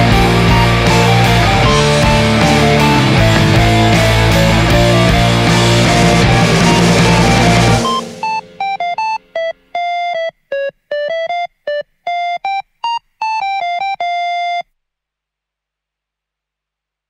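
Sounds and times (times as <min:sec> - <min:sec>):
synthesizer melody: 0:00.0 - 0:14.6.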